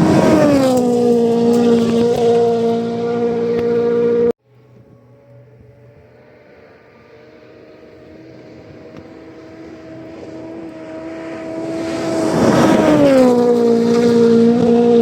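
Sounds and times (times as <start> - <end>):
engine drone passing: 0.0 - 15.0.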